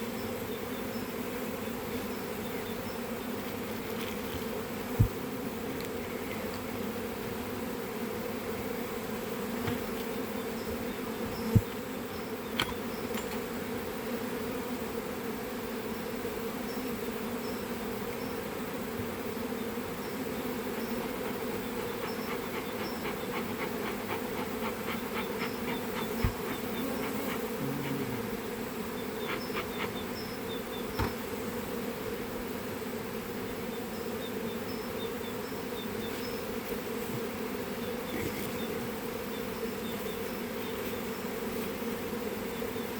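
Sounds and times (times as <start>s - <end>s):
honeybees buzzing: 0.0s - 42.9s.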